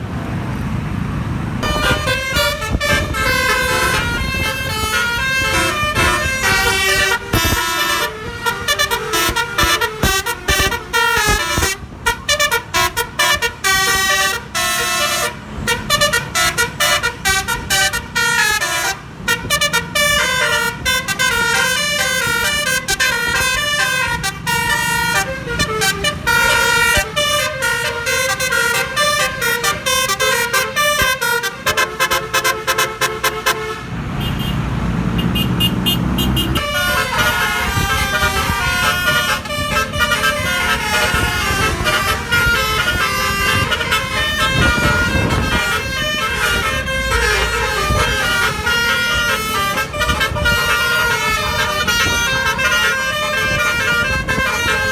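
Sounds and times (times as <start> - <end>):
musical air horn melody: 1.6 - 34.6, 35.2 - 54.9.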